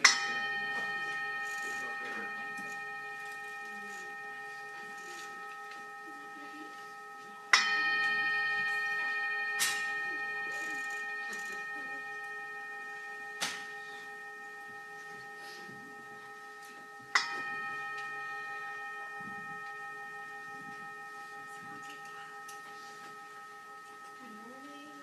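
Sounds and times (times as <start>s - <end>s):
bell ringing: 0.0s - 25.0s.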